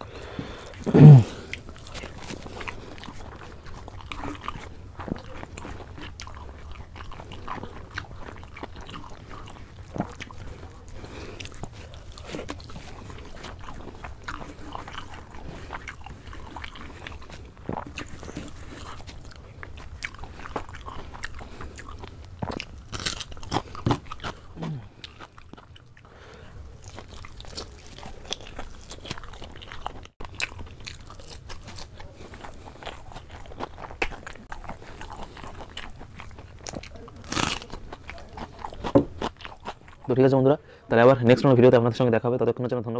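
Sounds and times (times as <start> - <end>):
person chewing crunchy food: 0.0 - 40.3.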